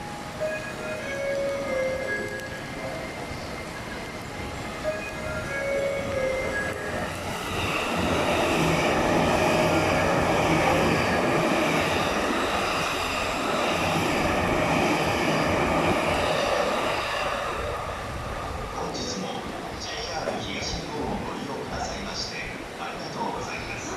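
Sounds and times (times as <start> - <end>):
electric train passing: 0.0 - 23.9.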